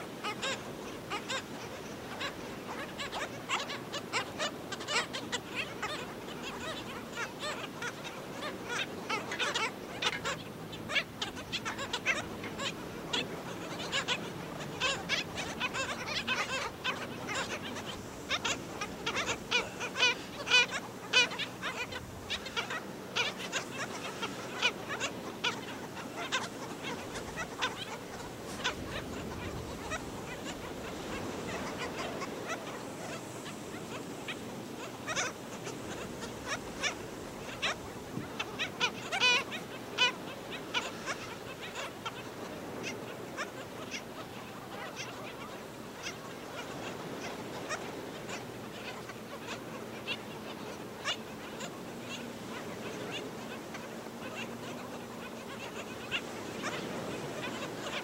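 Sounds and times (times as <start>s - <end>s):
birds barking calls: 0.0s - 58.0s.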